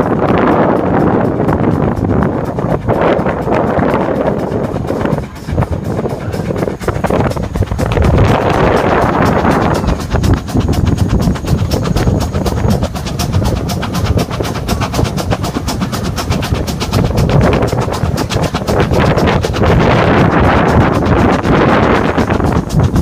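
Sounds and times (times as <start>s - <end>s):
rapid clicking of train wheels: 0.0s - 23.0s
steam train rumbling on track: 0.0s - 23.0s.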